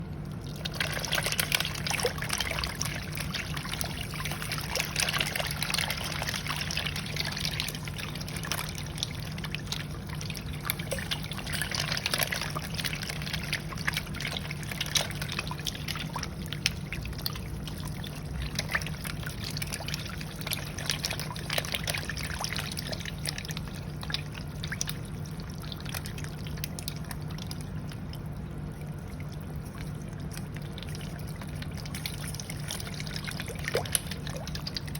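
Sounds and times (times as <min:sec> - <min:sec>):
steady low hum: 0:00.0 - 0:34.9
water trickling and splashing: 0:00.0 - 0:34.9.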